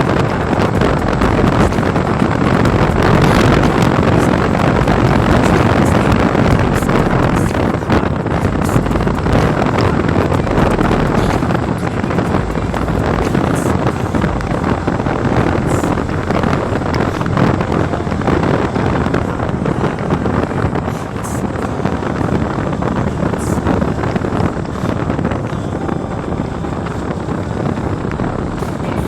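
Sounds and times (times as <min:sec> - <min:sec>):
moving vehicle on road: 0:00.0 - 0:29.0
wind buffeting microphone: 0:00.0 - 0:29.0.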